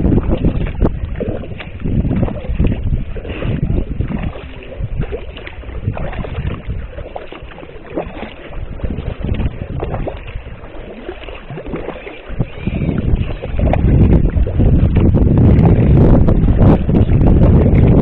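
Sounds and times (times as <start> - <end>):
paddle splashing in water: 0.0 - 18.0
wind rumbling on microphone: 0.0 - 18.0.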